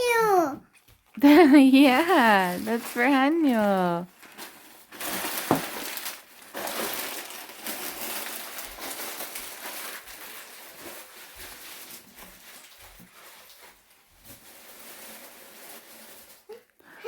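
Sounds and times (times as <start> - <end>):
paper rustling and crinkling: 0.7 - 16.8.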